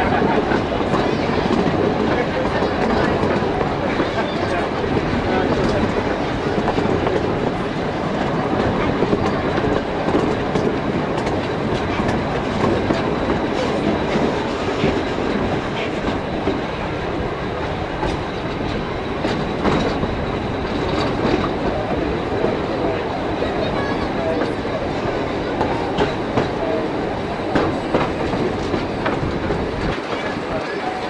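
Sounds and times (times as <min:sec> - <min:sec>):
rail joint clicks: 0:00.0 - 0:31.0
wheels rumbling on rail: 0:00.0 - 0:31.0.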